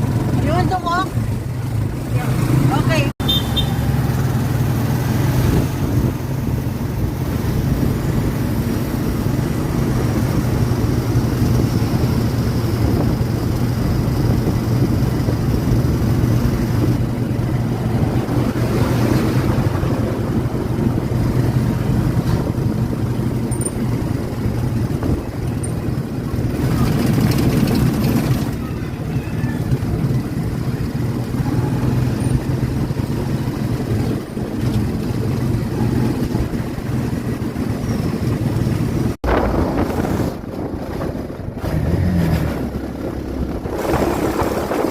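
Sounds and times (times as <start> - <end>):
road noise: 0.0 - 44.9
vehicle engine drone: 0.0 - 44.9.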